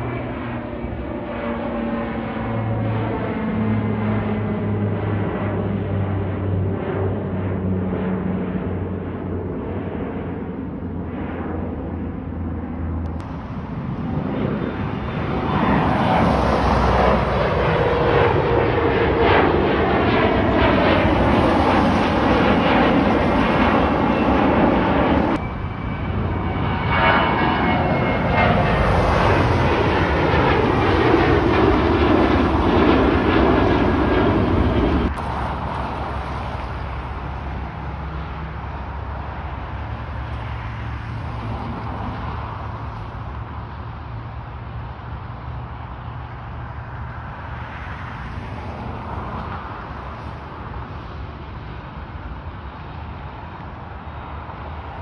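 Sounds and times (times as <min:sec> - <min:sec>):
airliner engines climbing overhead: 0:00.0 - 0:55.0.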